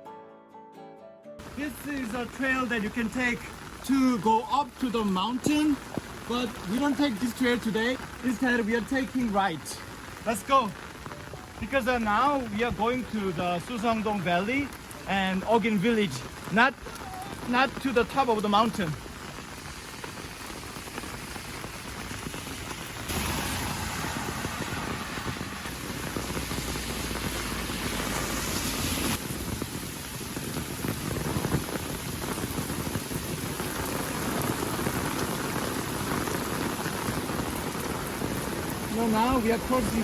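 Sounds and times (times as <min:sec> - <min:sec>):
heavy rain falling: 0:01.4 - 0:40.0.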